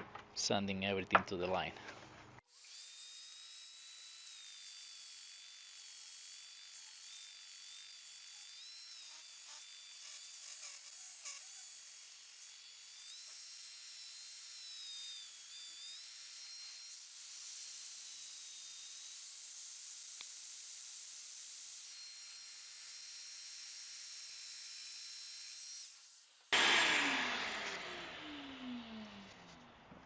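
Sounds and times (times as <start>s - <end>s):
electric sander whining: 2.6s - 29.8s.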